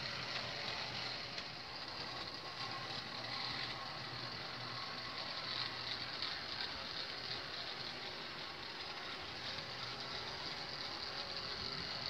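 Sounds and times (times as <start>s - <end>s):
model train motor whirring: 0.0s - 12.0s
model train wheels clicking: 0.0s - 12.0s.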